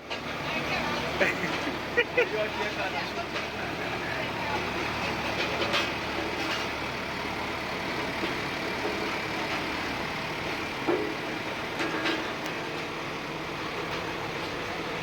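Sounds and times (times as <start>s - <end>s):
road roller diesel engine: 0.0s - 15.0s.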